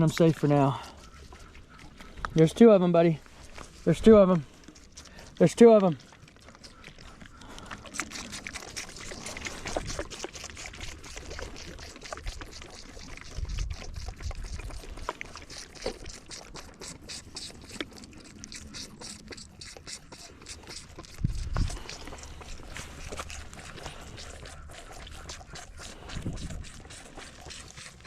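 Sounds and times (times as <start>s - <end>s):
lambs sucking from bottles: 0.0s - 28.0s.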